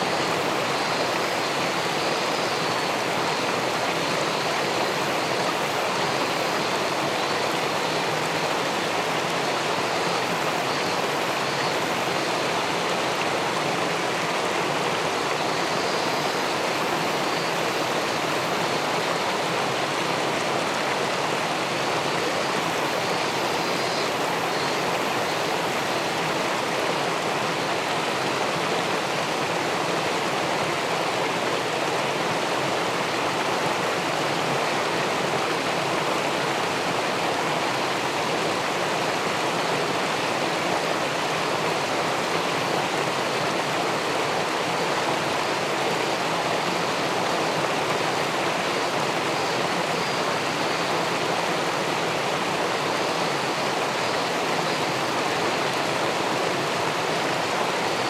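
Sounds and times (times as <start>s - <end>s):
water rushing over a weir: 0.0s - 58.0s.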